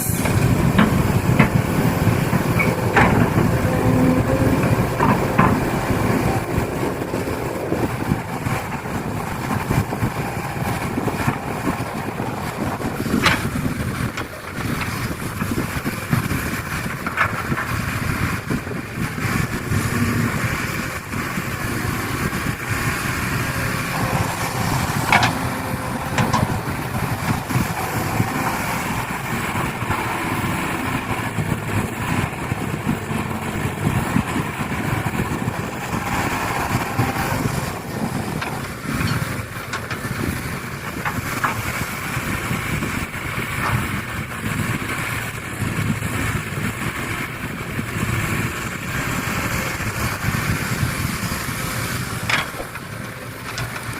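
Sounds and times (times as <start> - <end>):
heavy machinery engine: 0.0 - 53.9.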